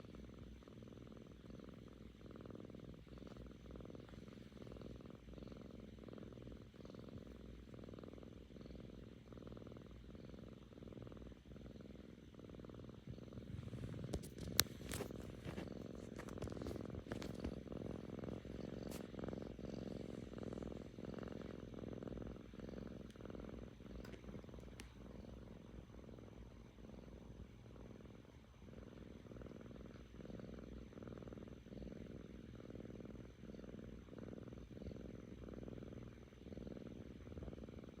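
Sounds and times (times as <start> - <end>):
kitten purring: 0.0 - 38.0.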